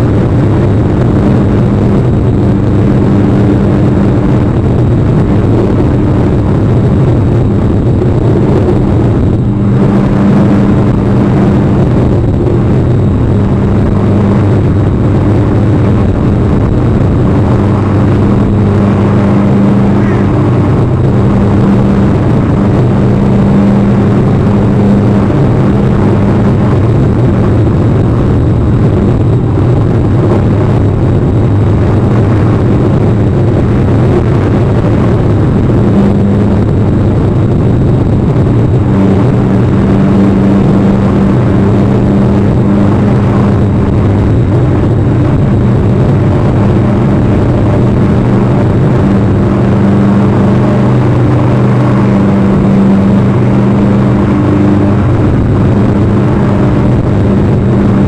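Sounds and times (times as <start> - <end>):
steady loud noise: 0.0 - 58.0.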